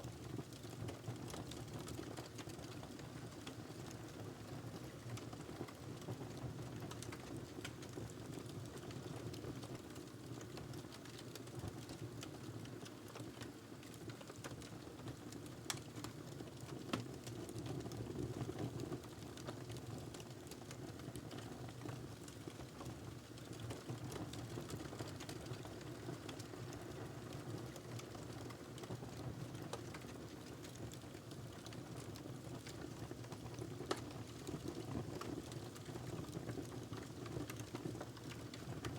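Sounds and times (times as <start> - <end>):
wood fire crackling: 6.7 - 9.0, 9.7 - 38.9.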